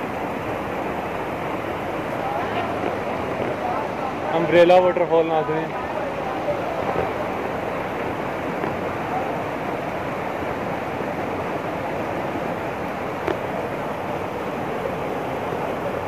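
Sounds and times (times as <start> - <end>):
fast rocky stream: 0.0 - 16.0
waterfall rushing: 0.0 - 16.0.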